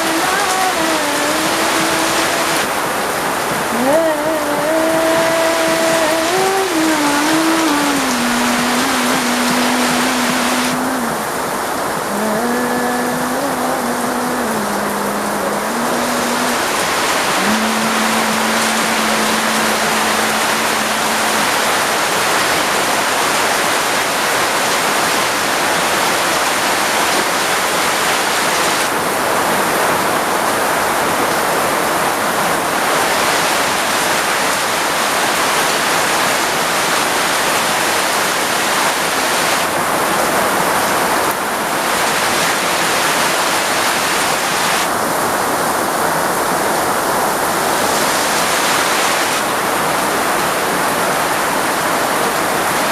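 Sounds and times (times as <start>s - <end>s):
heavy rain downpour: 0.0s - 52.9s.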